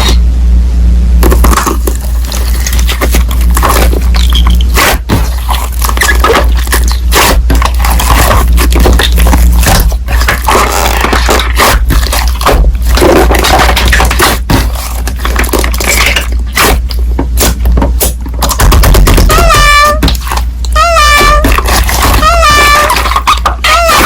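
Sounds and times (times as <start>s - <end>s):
steady low hum: 0.0s - 24.0s
distorted scraping and crackling: 1.2s - 24.0s.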